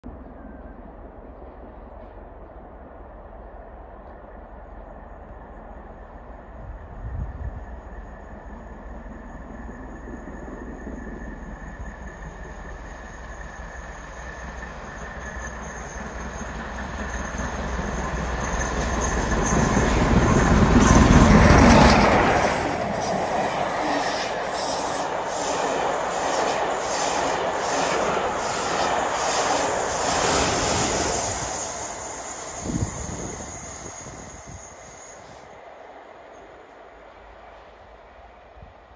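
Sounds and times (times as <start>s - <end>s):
diesel locomotive passing: 0.0s - 38.9s
steam locomotive working hard: 4.7s - 38.9s.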